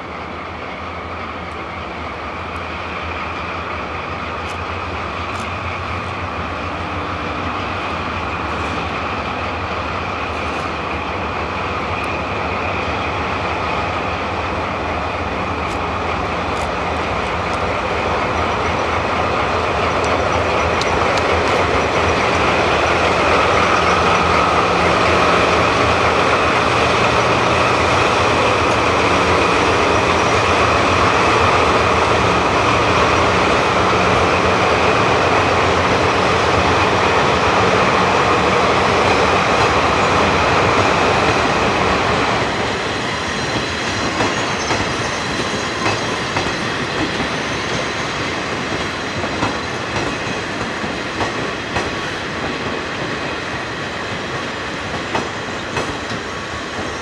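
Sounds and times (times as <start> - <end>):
diesel locomotive engine: 0.0 - 57.0
wheels clicking over rail joints: 1.3 - 34.3, 38.4 - 57.0.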